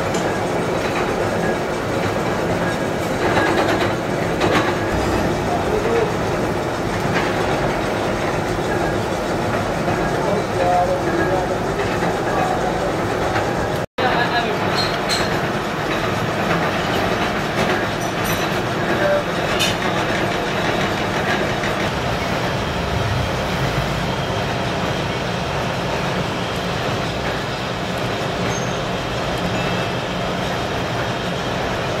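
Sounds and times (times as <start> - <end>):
machine running steadily: 0.0 - 32.0.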